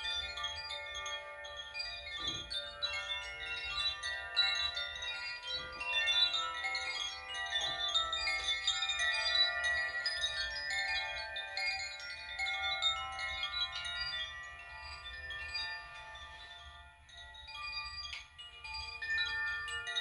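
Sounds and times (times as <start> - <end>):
wind chimes tinkling: 0.0 - 20.0.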